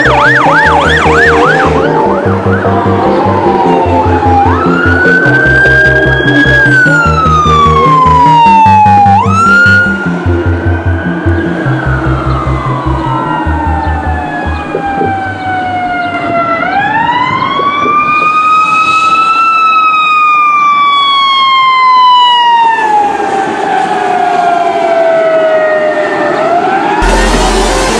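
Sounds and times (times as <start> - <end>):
fire engine siren wailing: 0.0 - 27.9.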